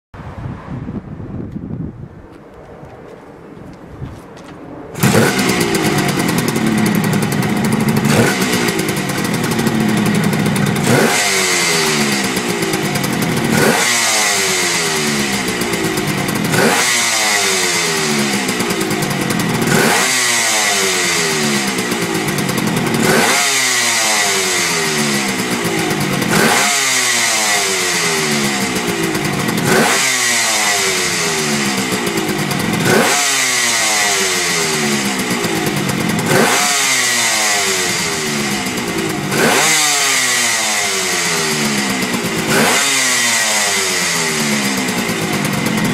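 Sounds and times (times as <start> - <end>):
motorcycle engine revving: 5.0 - 45.9
motorcycle engine starting: 5.0 - 45.9.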